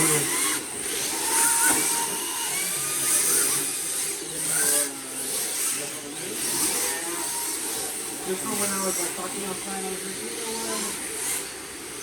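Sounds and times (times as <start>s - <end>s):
electric motors whining: 0.0s - 12.0s
faint chatter: 0.0s - 12.0s.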